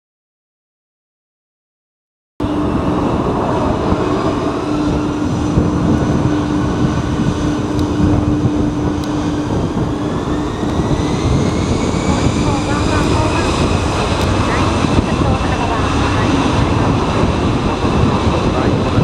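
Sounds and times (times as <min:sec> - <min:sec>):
jet engines whining: 0:02.4 - 0:19.0
wind buffeting microphone: 0:02.4 - 0:19.0.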